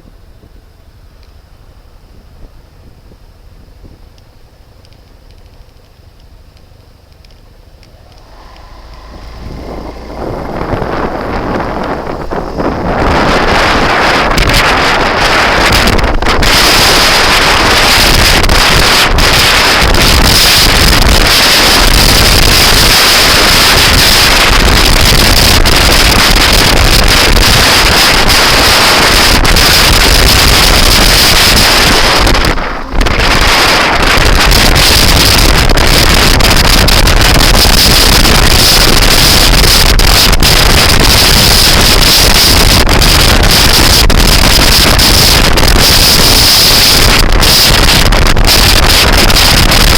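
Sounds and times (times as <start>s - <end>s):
wind buffeting microphone: 7.3s - 49.9s.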